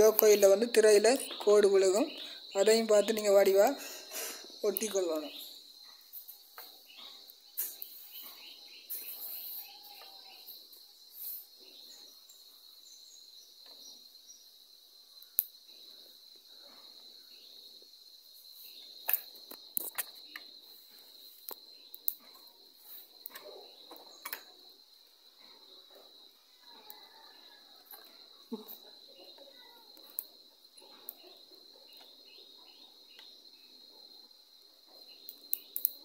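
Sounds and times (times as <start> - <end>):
insect chirring: 0.0 - 36.0.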